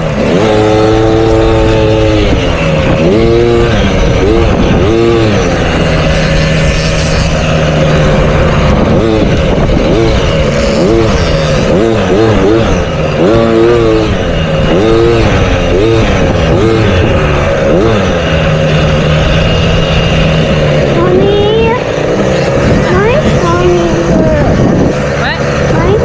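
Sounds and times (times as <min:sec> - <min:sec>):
dirt bike engines revving: 0:00.0 - 0:26.0
steady engine drone: 0:00.0 - 0:26.0.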